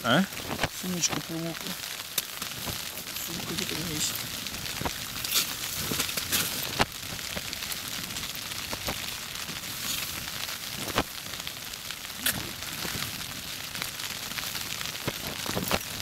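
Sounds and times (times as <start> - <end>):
heavy rain on tent fabric: 0.0 - 16.0.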